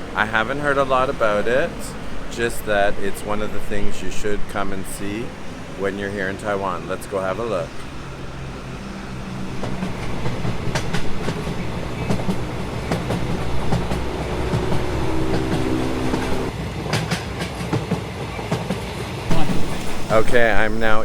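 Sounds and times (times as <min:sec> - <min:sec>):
pitched hum: 0:00.0 - 0:16.5, 0:19.3 - 0:21.0
wheels clicking over rail joints: 0:00.0 - 0:16.5, 0:19.3 - 0:21.0
train rumbling on tracks: 0:00.0 - 0:21.0.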